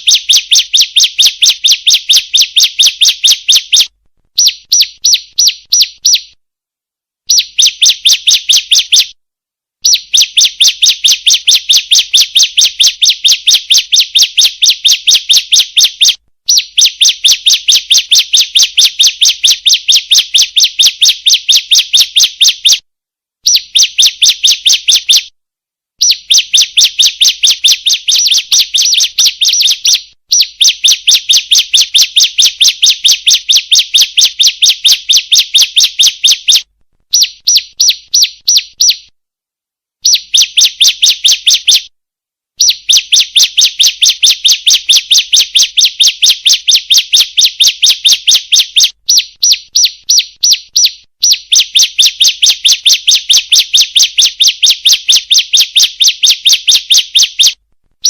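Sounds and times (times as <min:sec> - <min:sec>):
bird chirping rapidly: 0:00.0 - 0:06.4, 0:07.3 - 0:09.2, 0:09.8 - 0:22.8, 0:23.4 - 0:25.3, 0:26.0 - 0:39.1, 0:40.0 - 0:41.9, 0:42.6 - 0:57.6.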